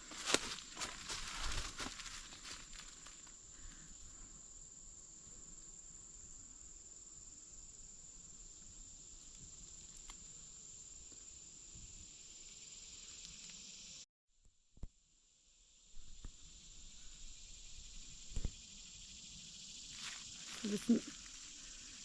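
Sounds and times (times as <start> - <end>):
high-pitched insect chorus: 0.0 - 14.1, 15.5 - 22.0.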